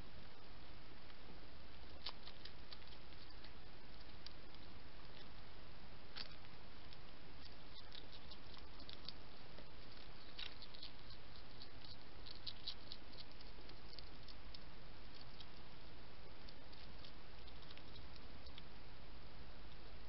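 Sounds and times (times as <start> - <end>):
hedgehog chewing food: 1.8 - 20.0.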